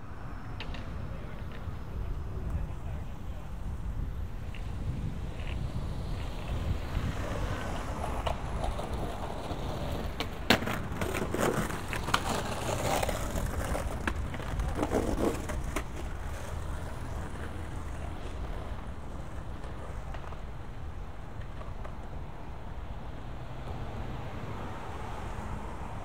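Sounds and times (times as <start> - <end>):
passing traffic rumble: 0.0 - 26.0.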